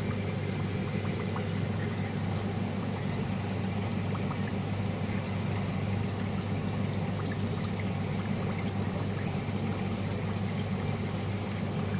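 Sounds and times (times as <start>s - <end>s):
pump humming: 0.0s - 11.9s
water running and trickling: 0.0s - 11.9s.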